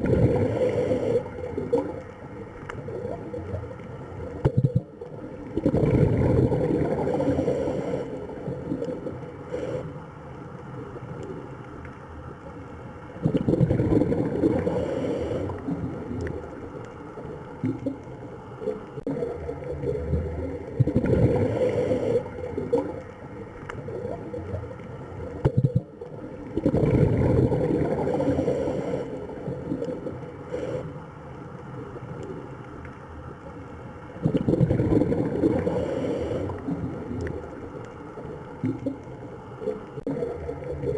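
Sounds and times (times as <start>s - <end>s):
surging water: 0.0s - 40.9s.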